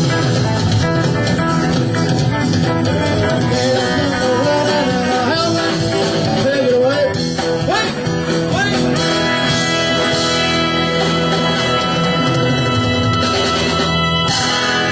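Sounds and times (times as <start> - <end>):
blues rock guitar music: 0.0 - 14.9.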